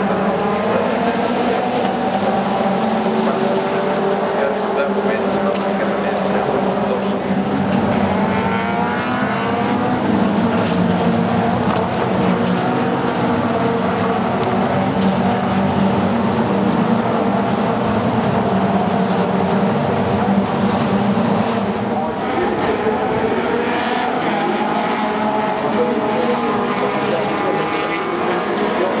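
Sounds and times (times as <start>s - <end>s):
mix of other engines: 0.0s - 29.0s
race car engines revving: 0.0s - 29.0s.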